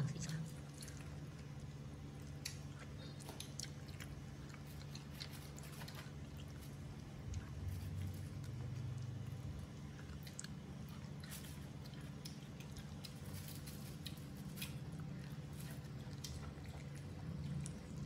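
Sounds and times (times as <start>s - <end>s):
low steady hum: 0.0s - 18.0s
monkeys chewing and gnawing: 0.0s - 18.0s.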